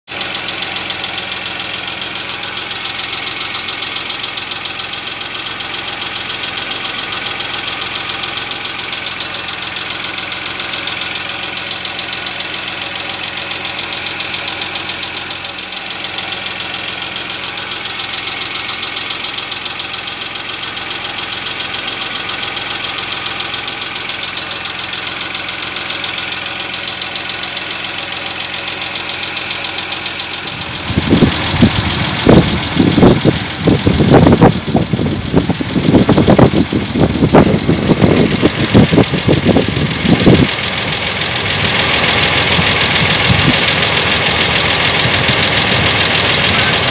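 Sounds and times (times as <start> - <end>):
car engine idling with ticking: 0.0 - 46.9.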